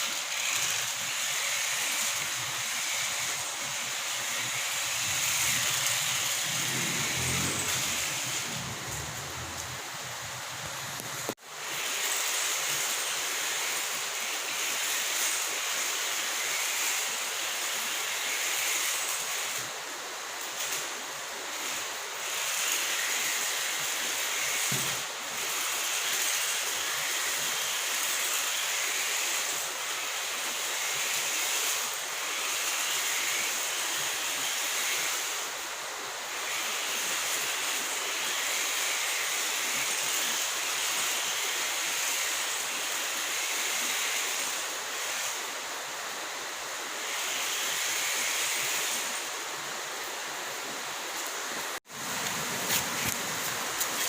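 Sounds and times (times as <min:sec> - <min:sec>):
rc car electric motor whine: 0:00.0 - 0:50.1.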